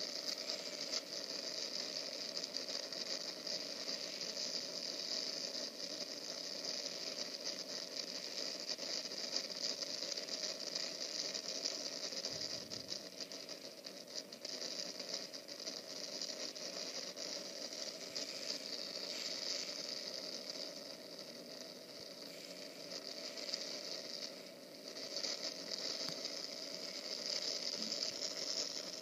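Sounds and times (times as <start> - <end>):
crackle of raindrops: 0.0 - 29.0
rain hissing: 0.0 - 29.0.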